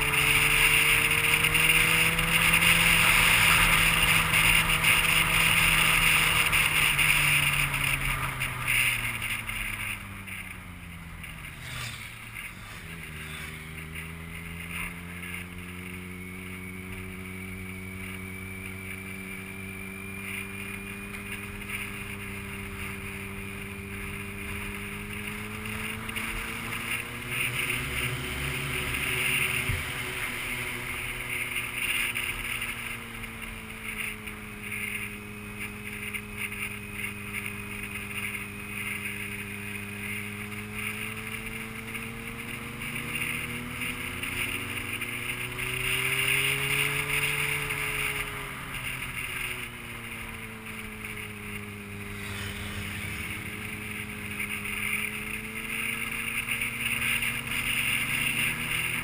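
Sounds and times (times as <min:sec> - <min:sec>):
vehicle engine running: 0:00.0 - 0:59.0
wind and road noise: 0:00.0 - 0:59.0.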